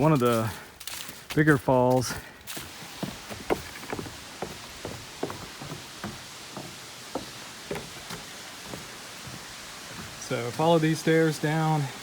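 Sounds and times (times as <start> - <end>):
footsteps on a trail: 0.0 - 12.0
faint hiss: 1.9 - 12.0.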